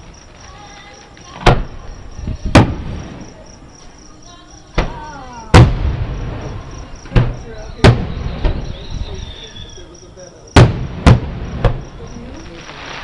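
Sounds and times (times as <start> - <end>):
crickets chirping: 0.0 - 13.0
distant firework booms: 1.3 - 3.5, 4.7 - 13.0.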